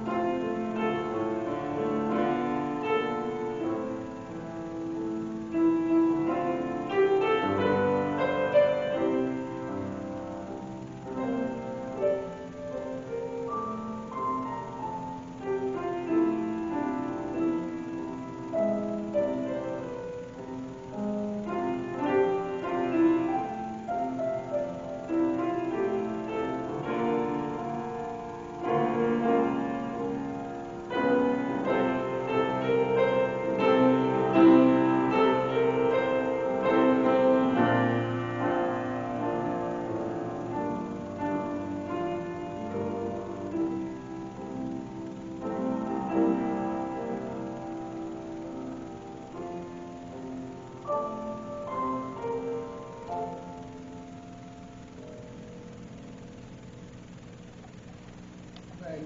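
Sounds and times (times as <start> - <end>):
solo piano playing: 0.0 - 56.3.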